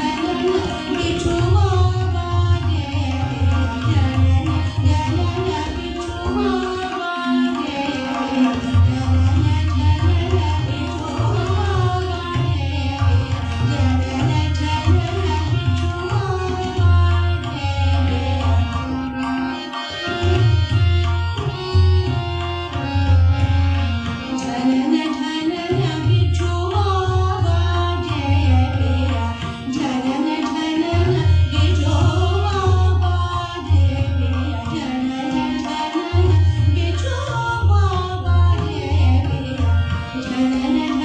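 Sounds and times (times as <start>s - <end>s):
woman singing: 0.0s - 18.8s, 24.3s - 41.0s
harmonium melody: 0.0s - 41.0s
tabla rhythm: 0.0s - 41.0s.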